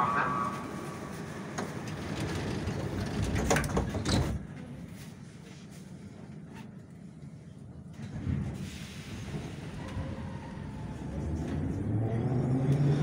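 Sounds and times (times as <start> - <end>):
metro car running: 0.0 - 13.0.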